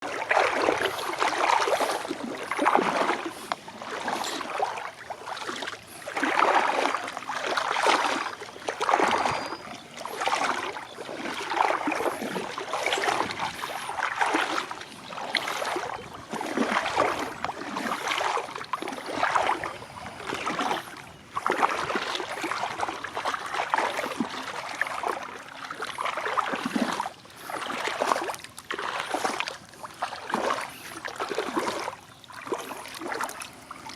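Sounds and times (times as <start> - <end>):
water splashing and sloshing: 0.0 - 33.9.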